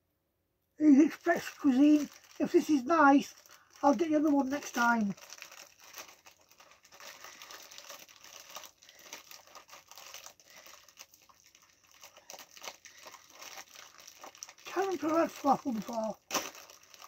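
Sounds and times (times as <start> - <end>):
packaging crinkling and tearing: 1.0 - 17.0.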